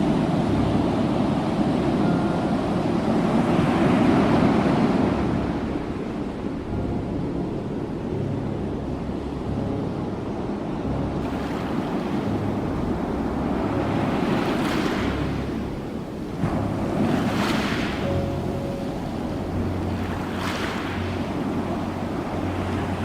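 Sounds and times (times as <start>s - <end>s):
ocean waves washing on shore: 0.0s - 23.0s.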